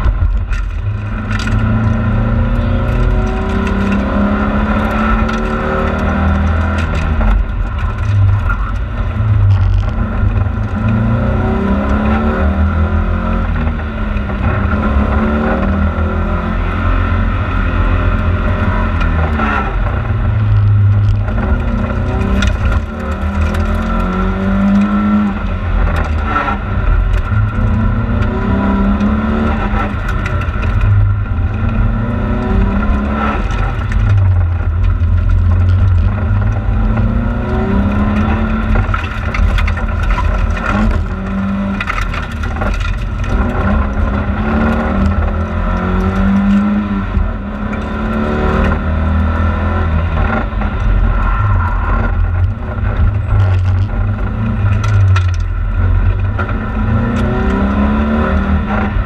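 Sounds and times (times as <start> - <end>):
rally car engine accelerating: 0.0 - 59.0.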